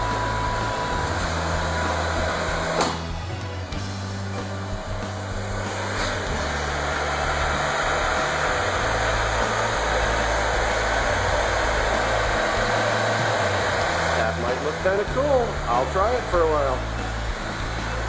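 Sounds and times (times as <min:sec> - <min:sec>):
van engine idling: 0:00.0 - 0:18.0.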